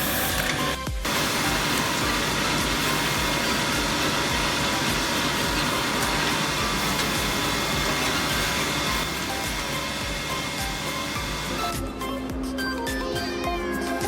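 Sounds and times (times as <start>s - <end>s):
drilling machine running: 0.0s - 12.5s.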